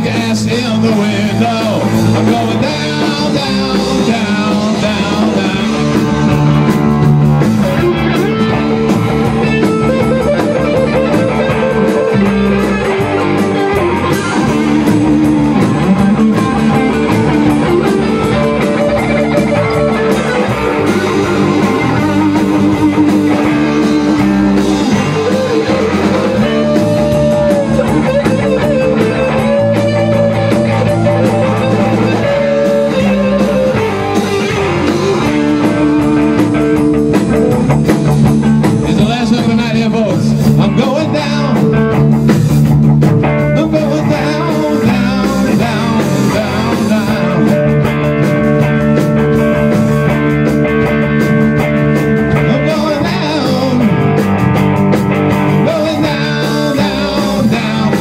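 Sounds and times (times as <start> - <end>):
drum kit: 0.0 - 58.0
electric bass: 0.0 - 58.0
electric guitar: 0.0 - 58.0.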